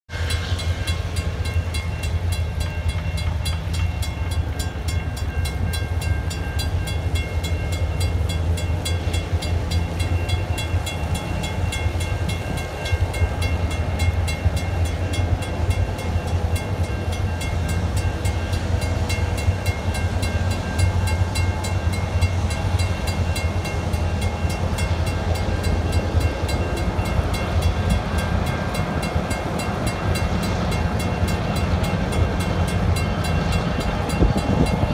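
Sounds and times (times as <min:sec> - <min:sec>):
railroad crossing bell ringing: 0:00.1 - 0:34.9.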